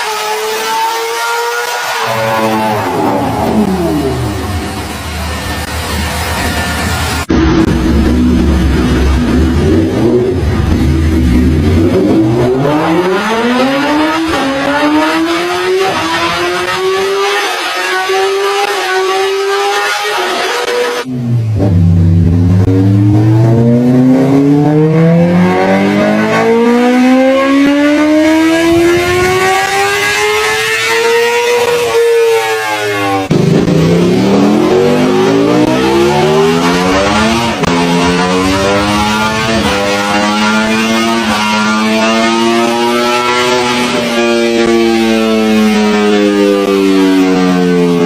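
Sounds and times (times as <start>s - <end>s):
motorcycle engines accelerating: 0.0s - 48.0s.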